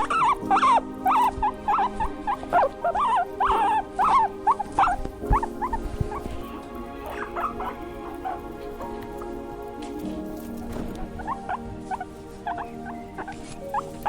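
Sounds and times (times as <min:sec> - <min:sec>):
small animal high calls: 0:00.0 - 0:09.3, 0:09.9 - 0:14.0
background music: 0:00.0 - 0:14.0.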